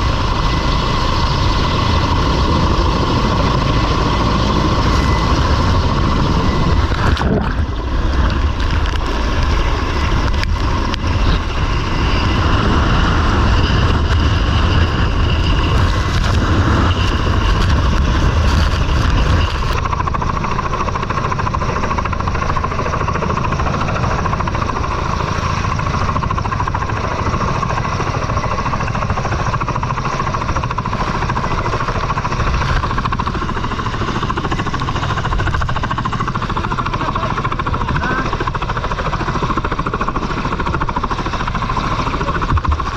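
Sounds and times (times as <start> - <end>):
engine running with whine: 0.0 - 42.9.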